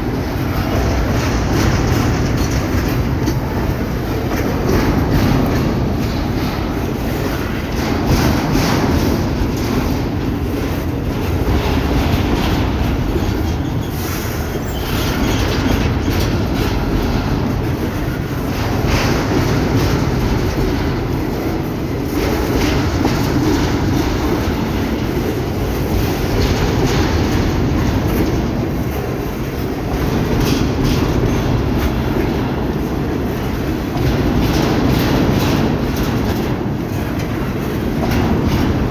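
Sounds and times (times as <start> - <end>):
clacking over rail joints: 0.0 - 38.9
train wheels rumbling on rail: 0.0 - 38.9.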